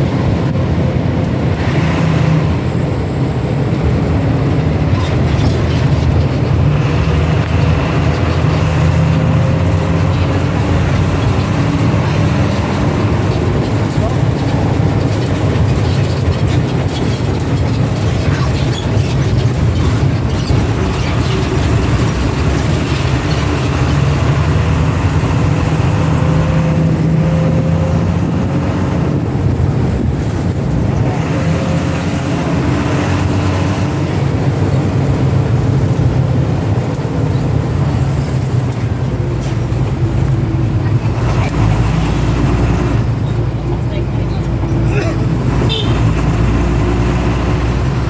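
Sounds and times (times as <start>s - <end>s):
bus engine running: 0.0s - 48.0s
road noise: 0.0s - 48.0s.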